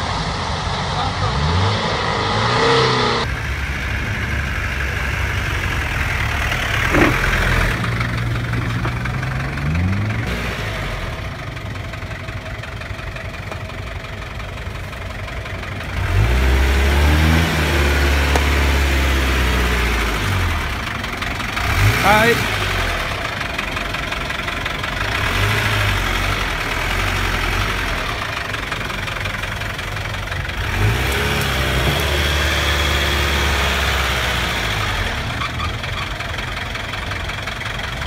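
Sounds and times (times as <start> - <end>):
off-road vehicle engine revving: 0.0 - 12.7, 13.6 - 38.0.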